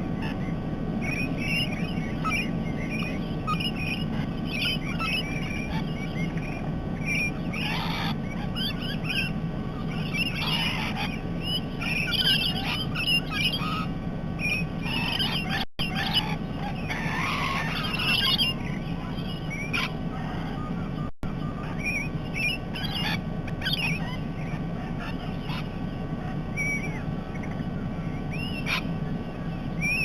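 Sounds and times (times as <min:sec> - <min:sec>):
low background rumble: 0:00.0 - 0:30.0
parrots chirping: 0:00.0 - 0:30.0
parrots squawking: 0:00.0 - 0:30.0.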